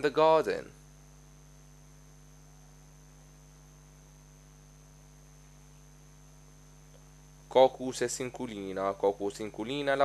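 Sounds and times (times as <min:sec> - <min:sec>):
faint electrical hum with whine: 0:00.0 - 0:10.0.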